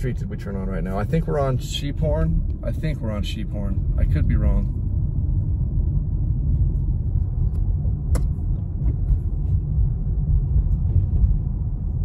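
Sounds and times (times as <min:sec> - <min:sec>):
car interior driving rumble: 0:00.0 - 0:12.0.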